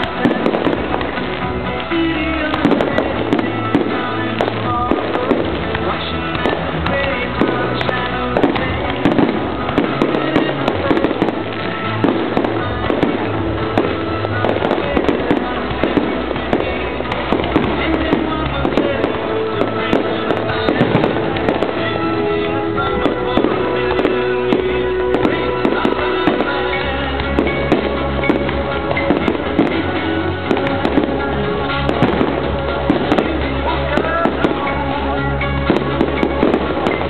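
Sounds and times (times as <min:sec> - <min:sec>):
fireworks bangs and crackles: 0:00.0 - 0:37.0
music with bass line: 0:00.0 - 0:37.0.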